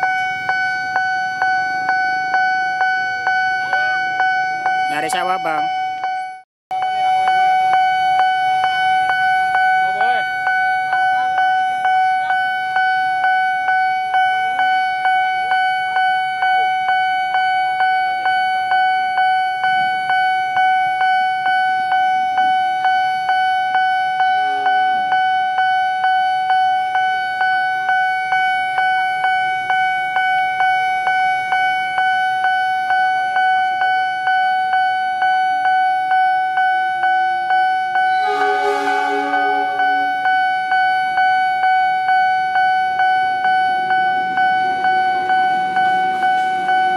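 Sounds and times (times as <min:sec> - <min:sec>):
level crossing warning bell: 0:00.0 - 0:46.9.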